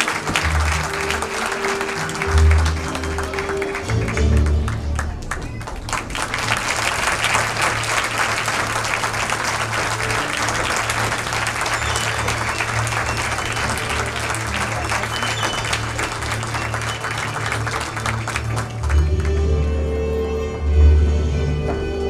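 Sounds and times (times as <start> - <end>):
audience applauding: 0.0 - 19.9
music playing: 0.0 - 22.0.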